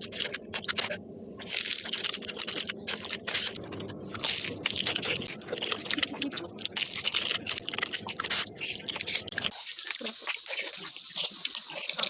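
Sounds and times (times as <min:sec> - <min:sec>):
wet chewing and mouth smacking: 0:00.0 - 0:12.0.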